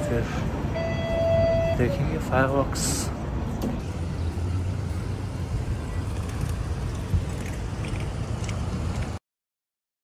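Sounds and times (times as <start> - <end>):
road traffic rumble: 0.0 - 9.2.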